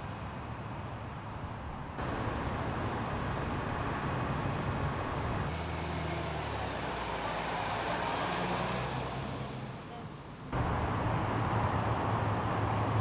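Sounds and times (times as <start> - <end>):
low engine hum: 0.1 - 13.0.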